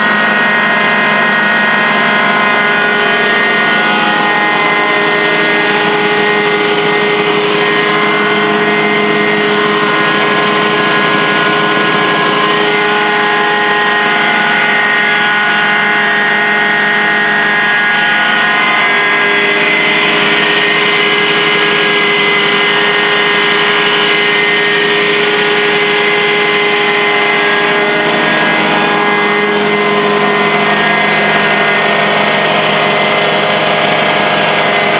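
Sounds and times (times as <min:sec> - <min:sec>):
machine drone: 0:00.0 - 0:34.9.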